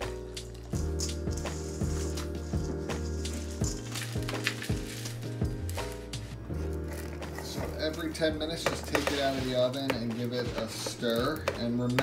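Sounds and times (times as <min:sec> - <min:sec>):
music with drum beat and bass: 0:00.0 - 0:12.0.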